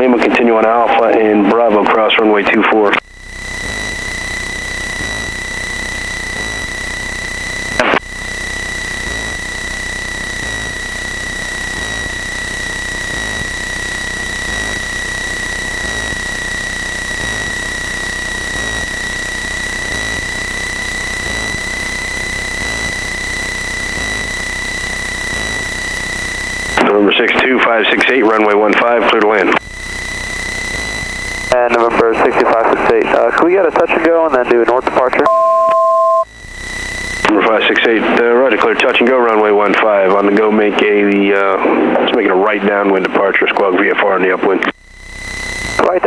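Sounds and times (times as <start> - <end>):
airplane engine drone: 0.0 - 35.2, 36.3 - 46.0
high-pitched whine: 0.0 - 46.0.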